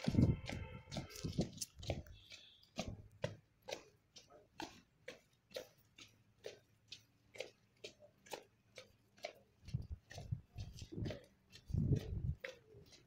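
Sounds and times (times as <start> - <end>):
marching boots on wet paving: 0.0 - 13.0.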